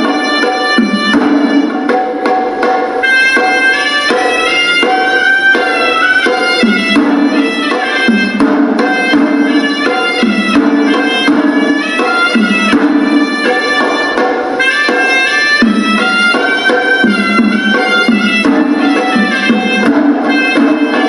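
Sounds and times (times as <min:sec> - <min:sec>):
double-reed pipe melody: 0:00.0 - 0:21.0
rhythmic drum strokes: 0:00.0 - 0:21.0.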